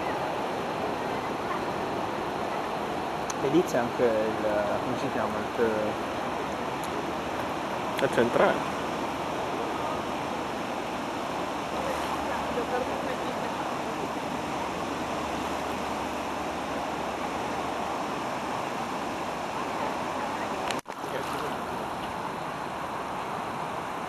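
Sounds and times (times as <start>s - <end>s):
river rushing in flood: 0.0s - 24.0s.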